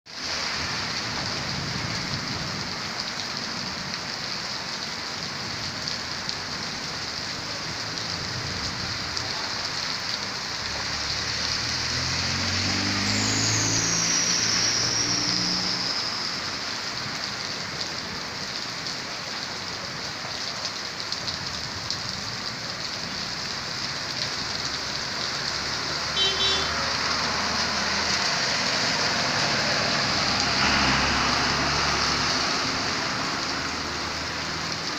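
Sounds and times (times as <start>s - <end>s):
heavy rain on wet street: 0.1s - 34.9s
car driving past on wet road: 4.0s - 19.1s, 21.4s - 34.9s.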